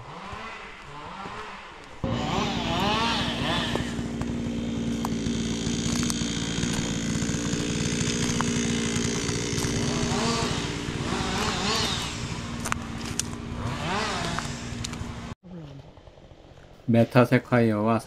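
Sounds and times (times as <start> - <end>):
small engine running: 0.0 - 16.8.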